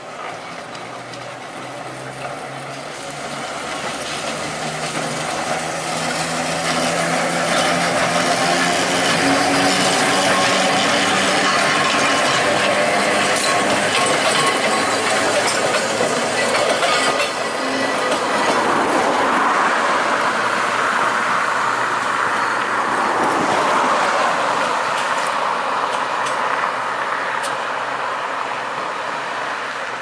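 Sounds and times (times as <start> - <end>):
wheels clicking over rail joints: 0.0 - 20.2, 21.2 - 28.0
tram wheels running on rails: 0.0 - 30.0.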